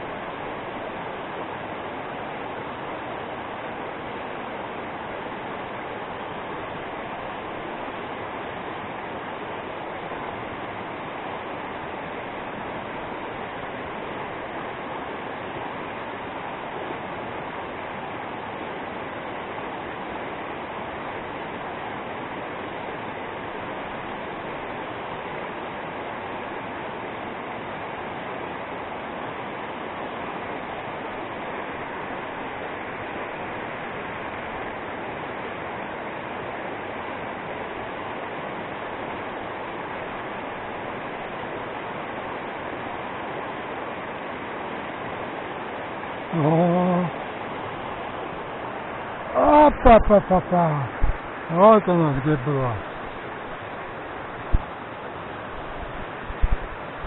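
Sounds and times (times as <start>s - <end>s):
river rushing through rapids: 0.0s - 57.0s.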